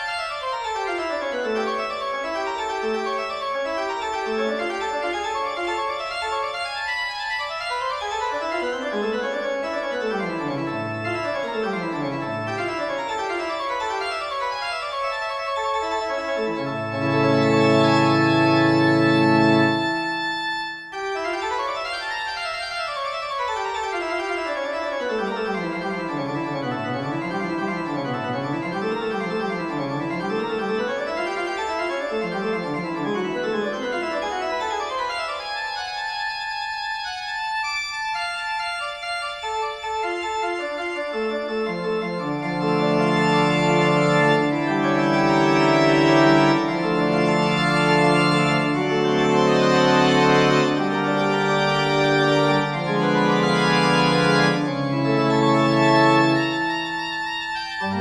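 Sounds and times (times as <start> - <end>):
organ-like keyboard music: 0.0 - 58.0.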